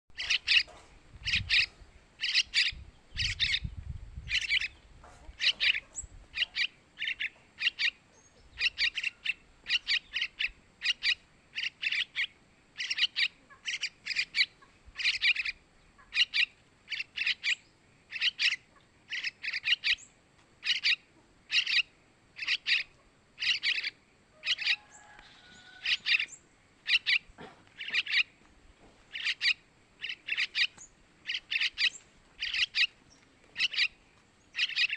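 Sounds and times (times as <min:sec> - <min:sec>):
bird chicks chirping: 0:00.1 - 0:28.4, 0:29.1 - 0:34.9.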